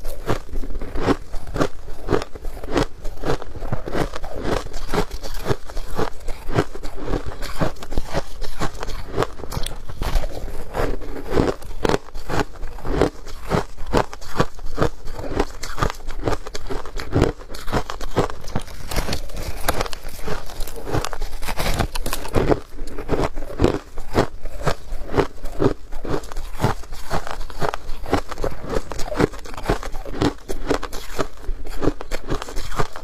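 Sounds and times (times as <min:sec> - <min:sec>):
ice being chewed: 0:00.0 - 0:33.0.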